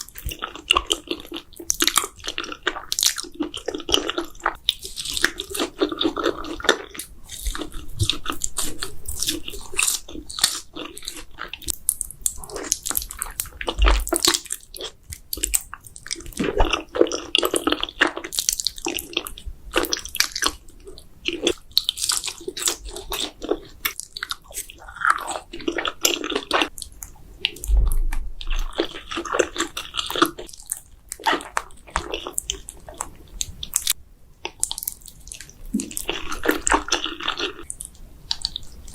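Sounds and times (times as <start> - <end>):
crunching food: 0.0 - 38.9
wet chewing and smacking: 0.0 - 38.9.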